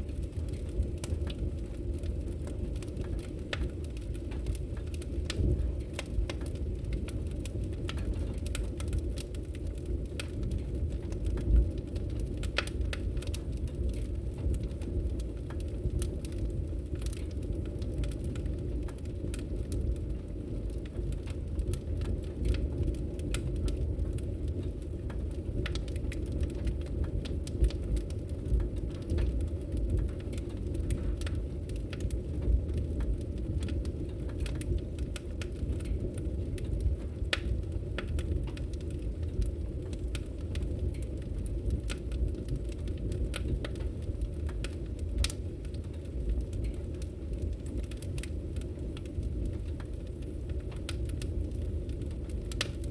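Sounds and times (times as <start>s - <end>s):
fire crackles and pops: 0.0s - 52.9s
wood fire burning: 0.0s - 52.9s.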